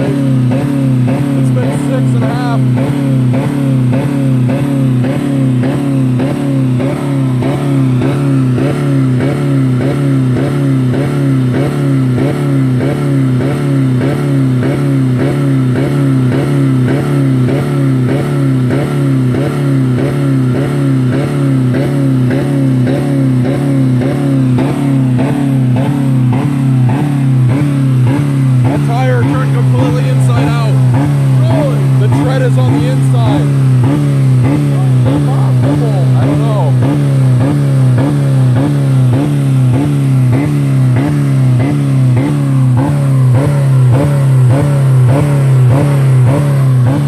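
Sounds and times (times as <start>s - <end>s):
car engine at high revs: 0.0s - 47.0s.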